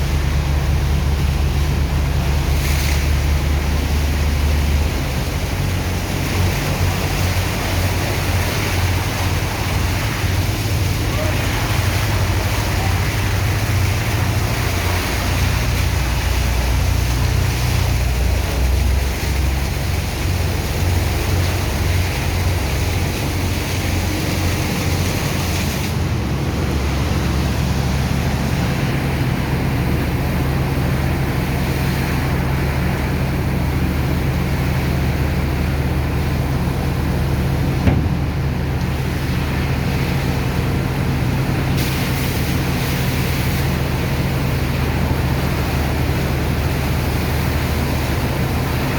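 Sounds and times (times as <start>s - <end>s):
pump engine running: 0.0s - 48.9s
water and sand slurry rushing: 0.0s - 48.9s.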